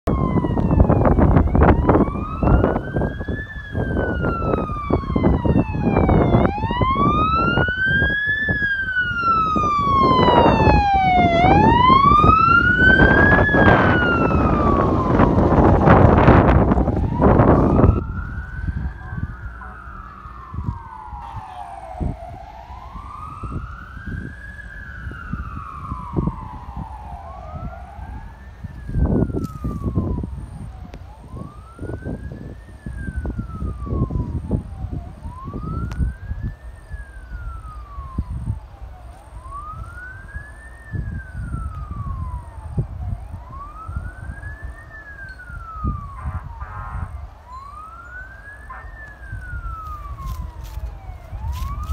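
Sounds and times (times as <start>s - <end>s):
fire truck sirens wailing: 0.0s - 51.9s
low rumbling gusts: 0.0s - 51.9s.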